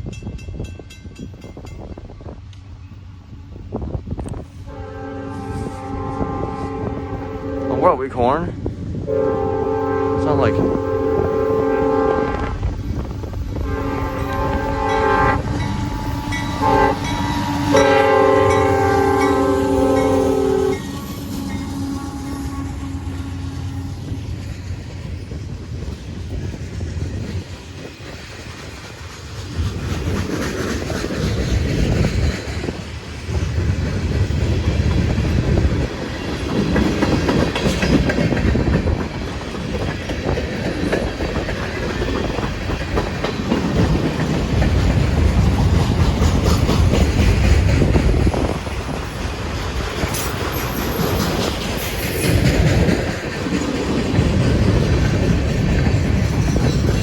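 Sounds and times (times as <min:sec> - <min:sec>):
freight train wheels clacking: 0:04.1 - 0:57.0.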